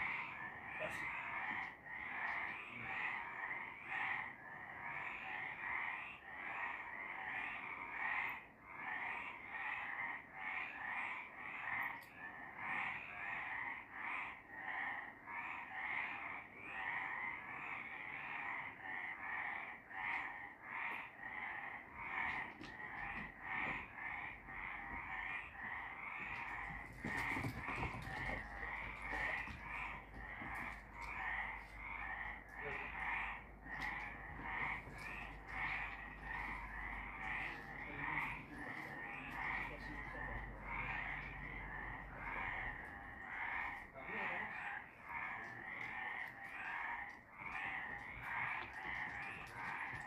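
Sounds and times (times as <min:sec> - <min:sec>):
frogs croaking: 0:00.0 - 0:50.0.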